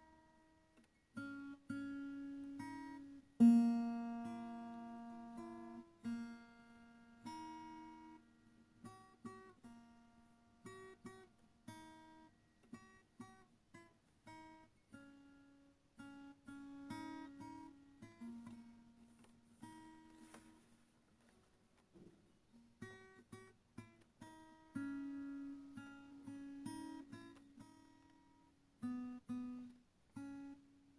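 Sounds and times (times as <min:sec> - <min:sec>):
plucked acoustic guitar: 0:00.0 - 0:21.3, 0:21.9 - 0:30.9.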